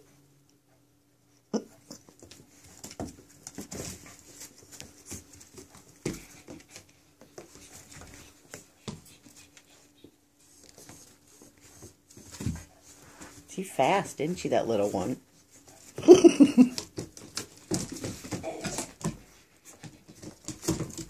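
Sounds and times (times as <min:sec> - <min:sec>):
puppies scuffling: 0:00.0 - 0:21.0.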